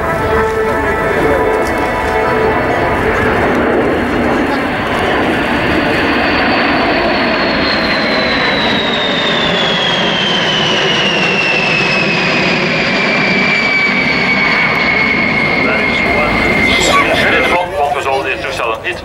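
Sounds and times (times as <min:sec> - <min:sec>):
jet bomber flying past: 0:00.0 - 0:19.0.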